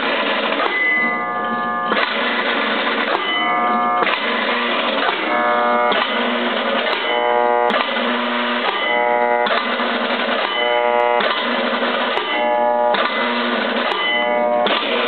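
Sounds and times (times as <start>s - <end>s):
siren solenoid buzzing: 0.0s - 15.0s.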